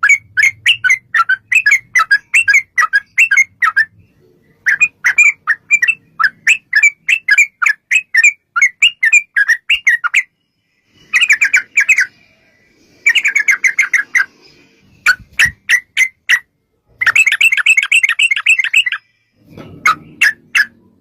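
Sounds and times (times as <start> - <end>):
bird singing bubbling chirps: 0.0 - 19.4.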